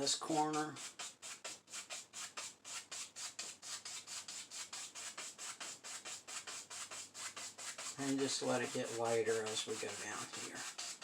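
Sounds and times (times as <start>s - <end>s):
brush scratching on canvas: 0.0s - 11.0s.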